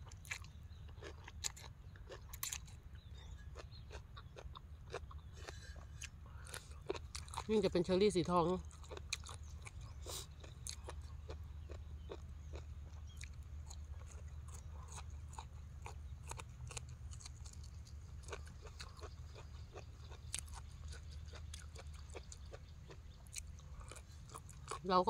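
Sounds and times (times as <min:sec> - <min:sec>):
person chewing crunchy food: 0:00.0 - 0:07.6, 0:08.6 - 0:25.0.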